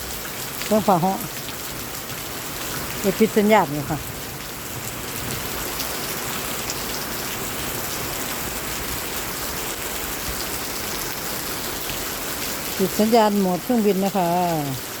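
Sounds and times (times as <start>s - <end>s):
heavy rain downpour: 0.0s - 15.0s.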